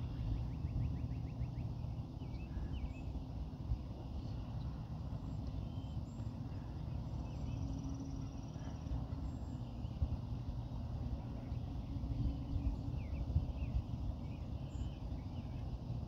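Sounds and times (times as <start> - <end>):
faint hum: 0.0 - 16.0
wind rumbling on microphone: 0.0 - 16.0.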